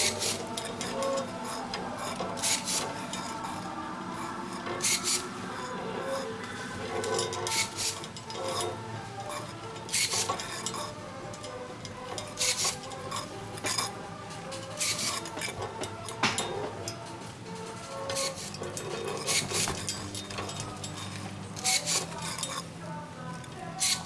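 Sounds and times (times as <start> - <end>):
electric ring-bending tool bursts: 0.0 - 13.9, 14.6 - 17.0, 17.9 - 22.7, 23.4 - 24.0.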